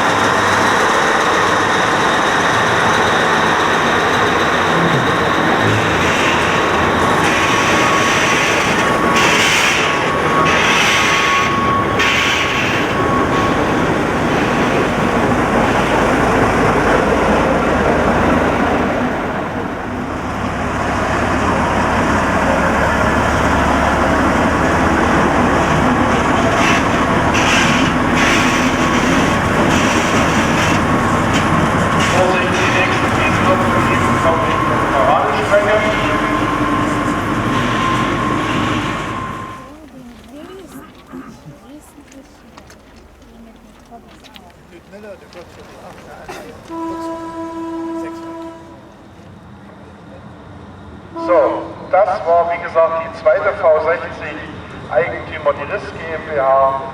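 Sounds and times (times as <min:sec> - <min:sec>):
locomotive engine hum: 0:00.0 - 0:56.9
locomotive wheels on track: 0:00.0 - 0:56.9.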